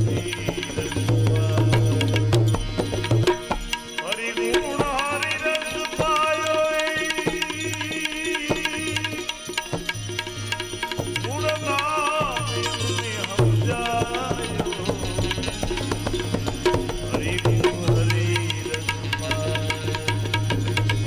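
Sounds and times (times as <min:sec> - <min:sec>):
tabla beat: 0:00.0 - 0:21.0.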